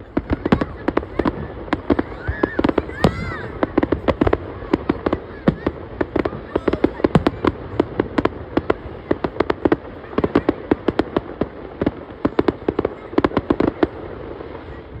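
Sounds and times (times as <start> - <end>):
fireworks bangs and cracks: 0.0 - 15.0.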